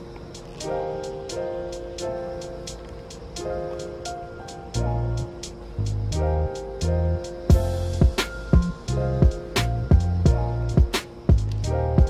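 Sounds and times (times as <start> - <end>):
background music with deep bass: 0.1 - 12.0.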